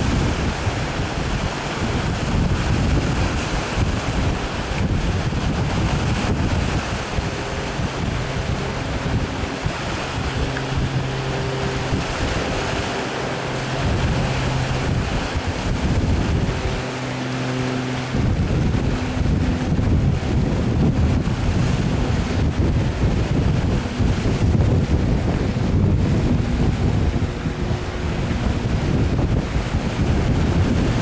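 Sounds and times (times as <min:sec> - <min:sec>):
sea wash: 0:00.0 - 0:31.0
ship engine hum: 0:00.0 - 0:31.0
wind buffeting microphone: 0:00.0 - 0:31.0.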